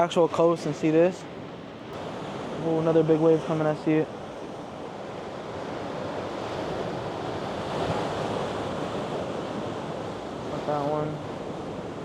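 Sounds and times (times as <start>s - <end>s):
waves on rocky shore: 0.0s - 12.0s.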